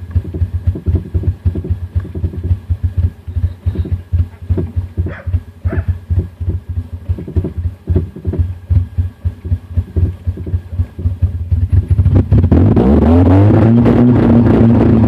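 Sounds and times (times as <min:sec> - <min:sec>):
car engine idling unevenly: 0:00.0 - 0:13.4
car engine revving: 0:00.0 - 0:15.0.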